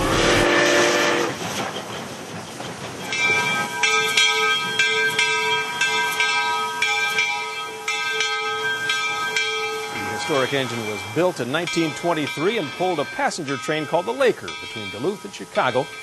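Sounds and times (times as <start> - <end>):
chime steam whistle: 0.0 - 1.4, 3.1 - 16.0
steam hissing: 0.0 - 16.0
locomotive bell ringing: 3.0 - 16.0.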